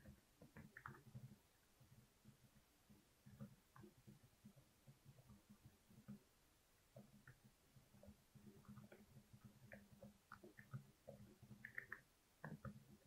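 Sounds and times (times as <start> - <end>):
soft keyboard typing: 0.0 - 13.0.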